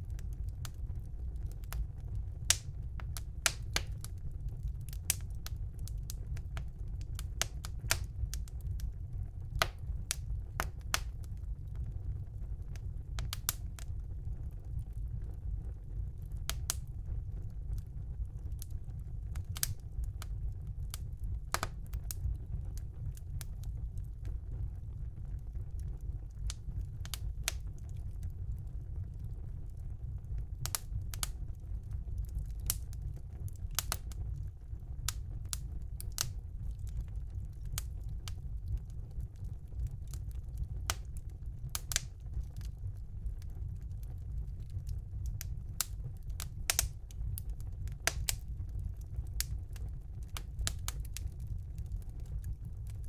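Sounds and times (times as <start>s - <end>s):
logs crackling and popping: 0.0s - 53.0s
wood fire rumbling: 0.0s - 53.0s.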